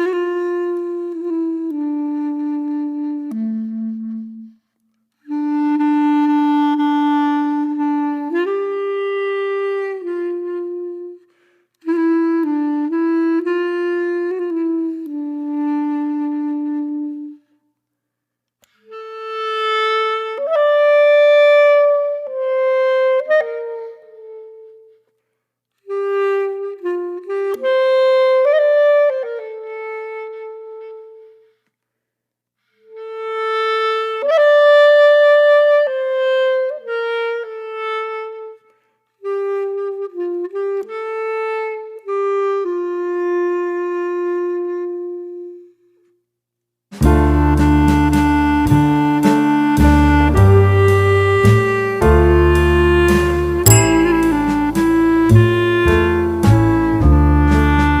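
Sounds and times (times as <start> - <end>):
slow woodwind melody: 0.0 - 17.6, 18.6 - 25.2, 25.8 - 31.6, 32.7 - 46.2, 46.9 - 58.0.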